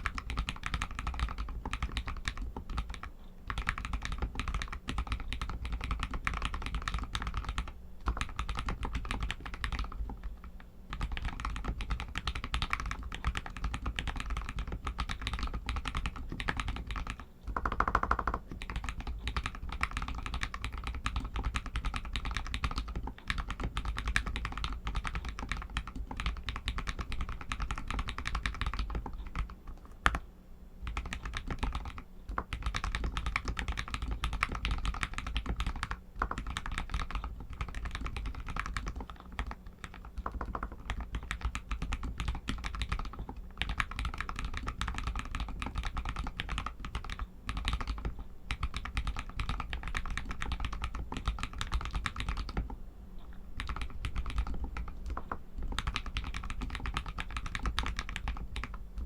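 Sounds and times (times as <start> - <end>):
mechanical keyboard typing: 0.0 - 30.2, 30.8 - 52.8, 53.6 - 59.0.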